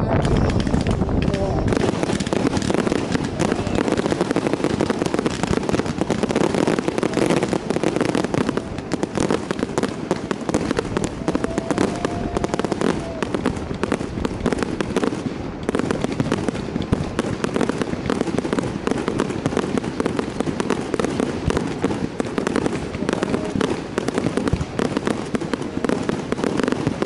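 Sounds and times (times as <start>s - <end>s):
fireworks bangs and crackling pops: 0.0s - 27.0s.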